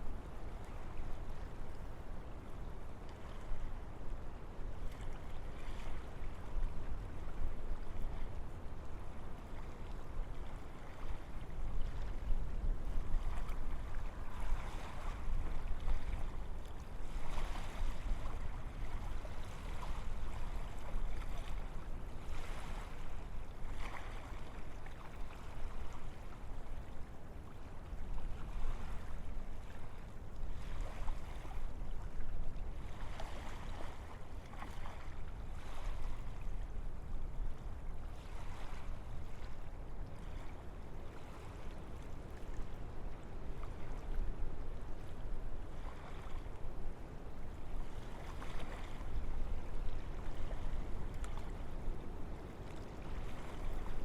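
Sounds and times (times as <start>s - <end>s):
low rumble of wind: 0.0s - 54.0s.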